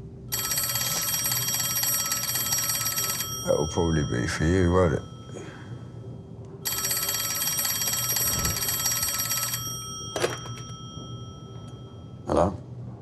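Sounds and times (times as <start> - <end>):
telephone bell ringing: 0.3 - 12.4.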